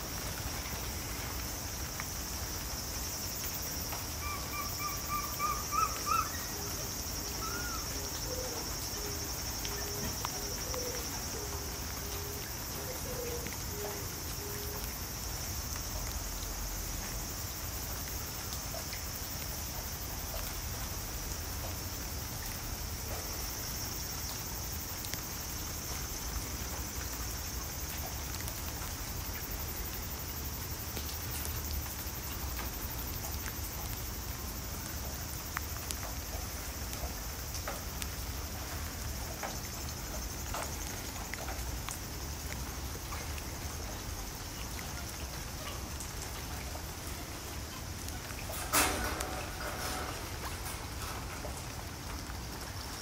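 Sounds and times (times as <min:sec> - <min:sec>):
high hiss: 0:00.0 - 0:53.0
faint ticks: 0:07.2 - 0:53.0.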